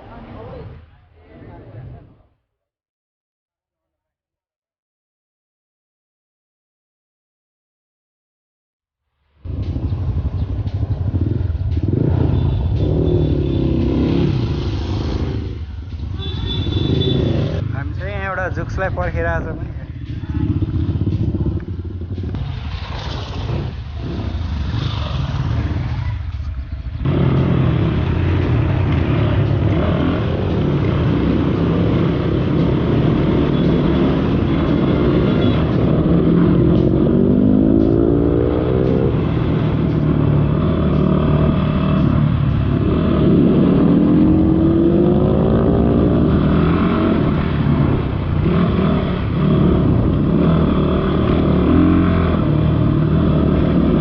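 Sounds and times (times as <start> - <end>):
motorcycle engine accelerating: 9.4 - 18.4, 19.0 - 54.0.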